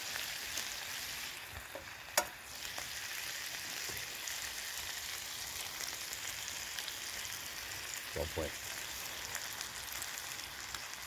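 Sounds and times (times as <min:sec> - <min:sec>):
food sizzling in hot fat: 0:00.0 - 0:11.0.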